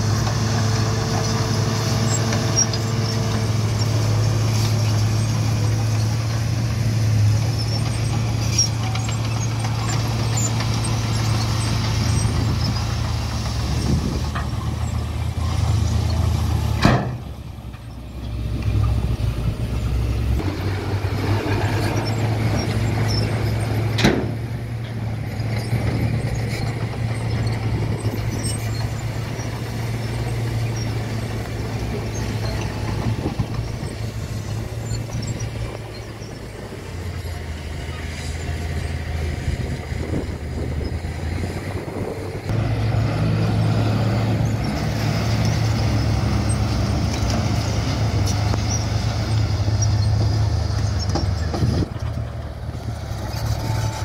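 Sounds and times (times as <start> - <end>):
diesel truck engine humming: 0.0 - 54.0.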